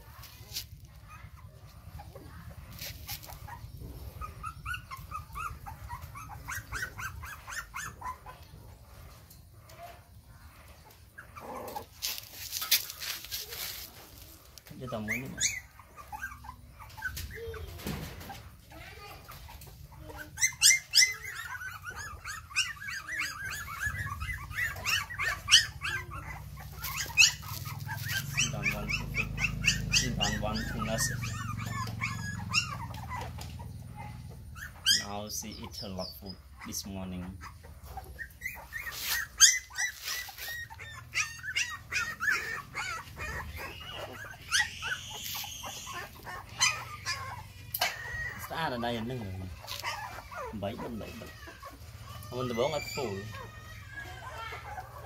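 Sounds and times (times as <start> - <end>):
sharp puppy yelps: 0.0 - 8.7, 9.6 - 55.0
puppies yipping and whining: 0.0 - 55.0.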